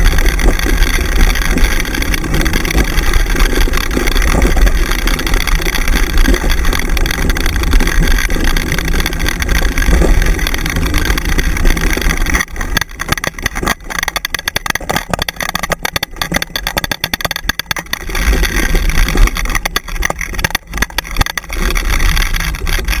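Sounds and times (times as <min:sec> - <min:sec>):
wheels rattling over dirt trail: 0:00.0 - 0:23.0.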